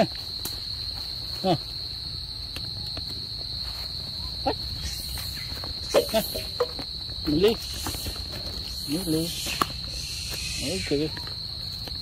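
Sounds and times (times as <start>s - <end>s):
footsteps rustling: 0.0s - 10.5s
night insects droning: 0.0s - 12.0s.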